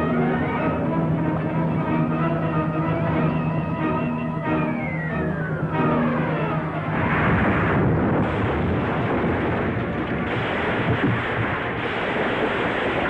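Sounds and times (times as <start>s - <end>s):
road noise: 0.0s - 11.9s
vehicle engine roaring: 0.0s - 13.0s.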